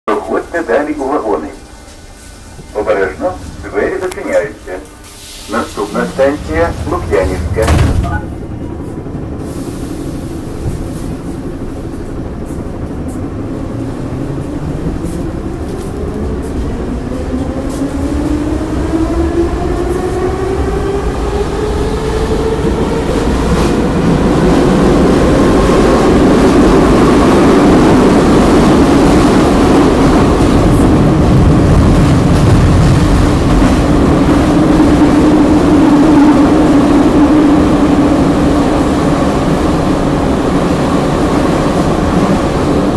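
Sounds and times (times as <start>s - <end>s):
train running gear rumble: 0.1s - 42.9s.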